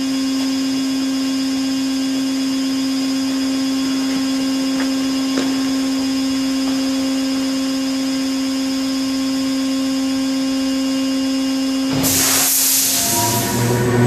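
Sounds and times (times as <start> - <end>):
high machine whine: 0.0 - 14.0
machine humming: 0.0 - 14.0.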